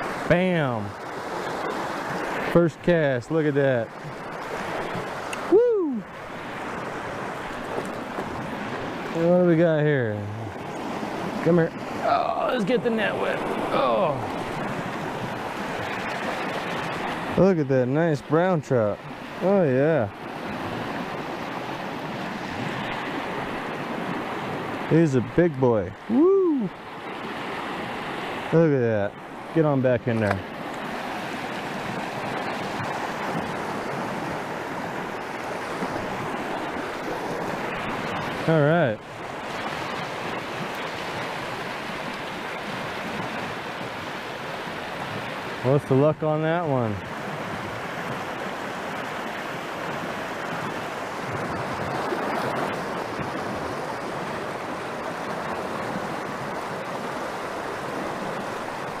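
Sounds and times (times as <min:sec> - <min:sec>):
creek rushing over boulders: 0:00.0 - 0:59.0.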